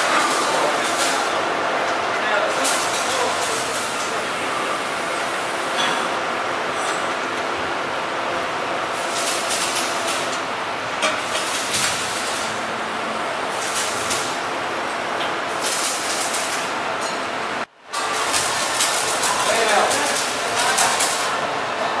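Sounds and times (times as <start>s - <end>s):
factory machinery noise: 0.0s - 22.0s.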